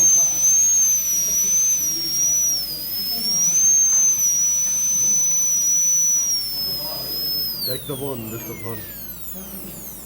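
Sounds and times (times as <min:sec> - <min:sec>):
dental drill high whine: 0:00.0 - 0:10.0.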